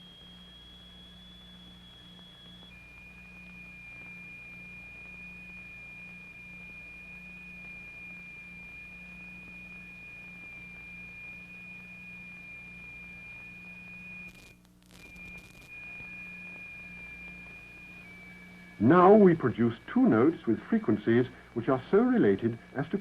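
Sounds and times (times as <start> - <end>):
high pure electronic tone: 0.0 - 23.0
low electrical hum: 0.0 - 23.0.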